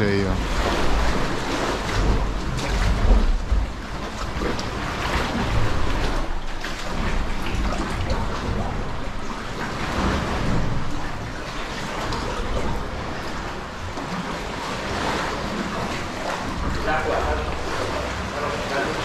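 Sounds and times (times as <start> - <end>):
paddle strokes splashing: 0.0 - 19.0
water lapping around kayaks: 0.0 - 19.0.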